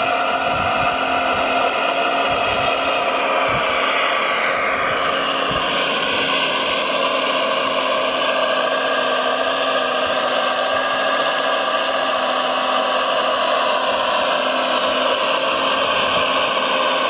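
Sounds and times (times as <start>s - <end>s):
electric motors and gears whining: 0.0s - 17.0s.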